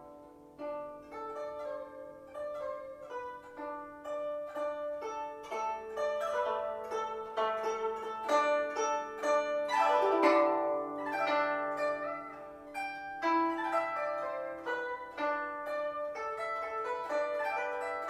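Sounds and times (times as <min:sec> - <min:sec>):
zither plucked melody: 0:00.0 - 0:18.0.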